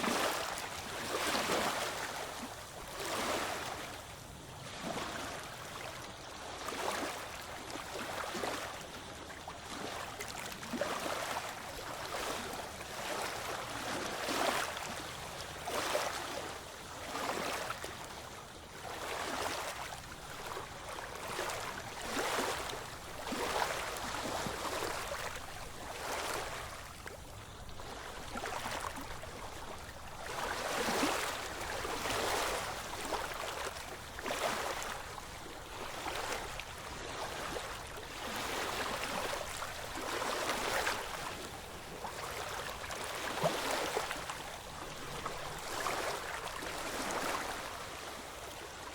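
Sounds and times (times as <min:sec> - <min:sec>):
small ocean waves washing in: 0:00.0 - 0:48.9.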